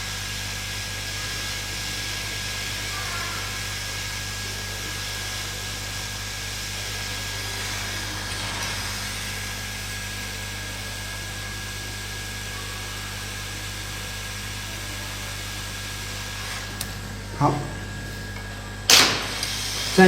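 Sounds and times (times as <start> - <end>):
hot air blower hissing: 0.0 - 20.0.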